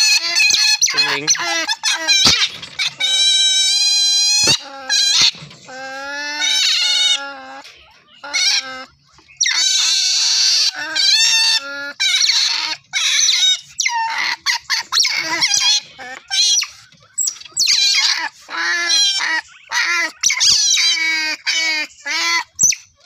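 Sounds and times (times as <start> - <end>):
otters squealing: 0.0 - 22.8.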